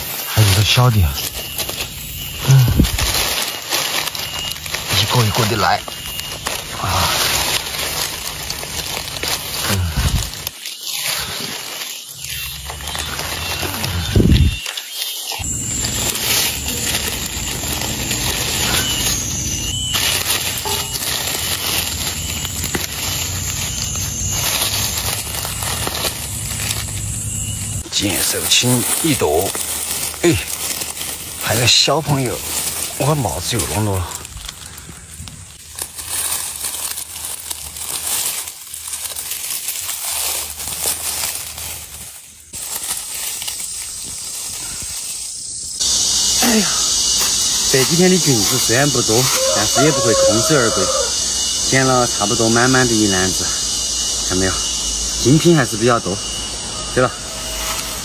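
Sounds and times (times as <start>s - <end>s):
dry leaves crackling and rustling: 0.0s - 58.0s.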